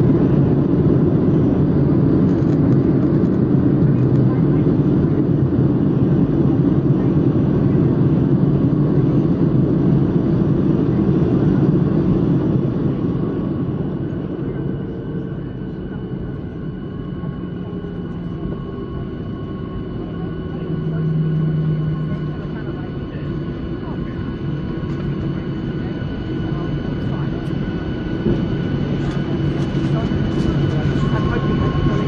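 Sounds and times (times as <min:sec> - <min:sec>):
engine rumble with high whine: 0:00.0 - 0:32.0
jet engine roar: 0:00.0 - 0:32.0.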